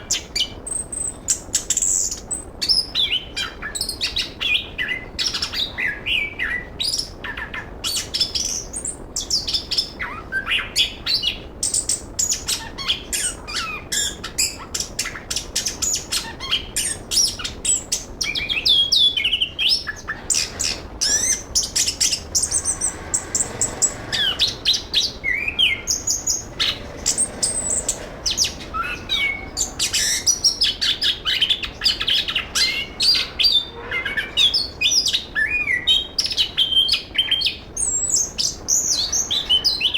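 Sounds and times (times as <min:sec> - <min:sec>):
thrush singing whistled notes: 0:00.0 - 0:39.9.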